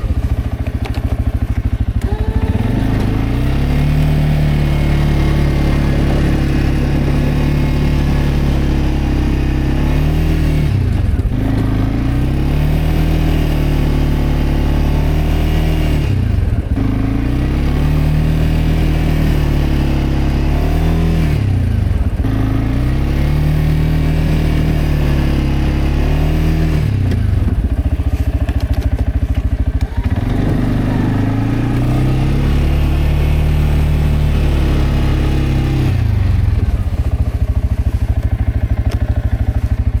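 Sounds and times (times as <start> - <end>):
atv engine revving: 0.0 - 40.0.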